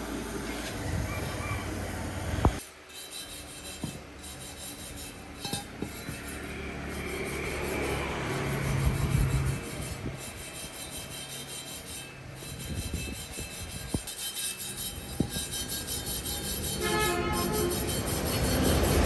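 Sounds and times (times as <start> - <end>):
rubbing and scraping: 2.5 - 19.0.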